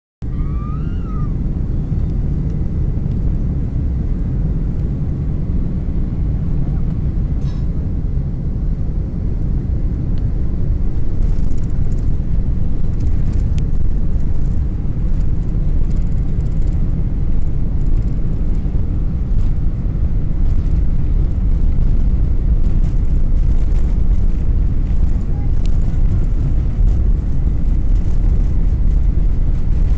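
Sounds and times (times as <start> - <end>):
jet engine cabin rumble: 0.2 - 29.9.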